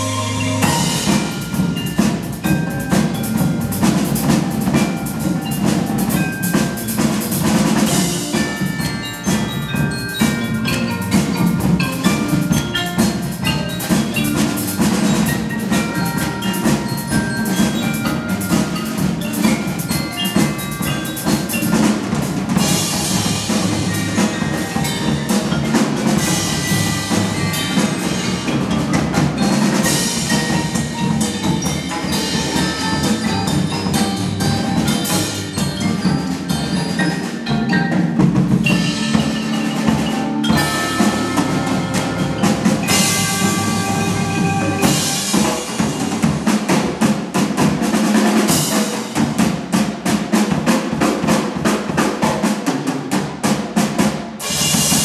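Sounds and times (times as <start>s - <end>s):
drum kit: 0.0s - 55.0s
marimbas playing a tune: 0.0s - 55.0s.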